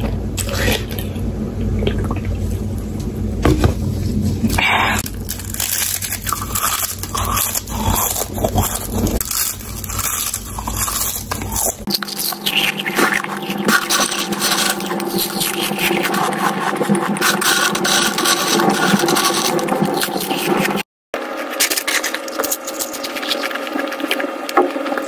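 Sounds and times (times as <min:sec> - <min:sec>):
hand rummaging through chips: 0:04.0 - 0:20.8, 0:21.4 - 0:24.9
chewing potato chips: 0:04.4 - 0:25.0.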